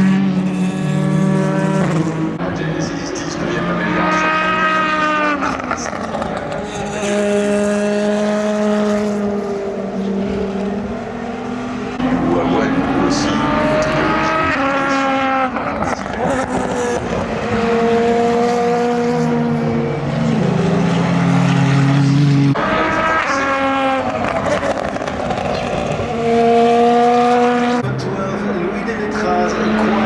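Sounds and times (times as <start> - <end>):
race car engines at full throttle: 0.0 - 30.0.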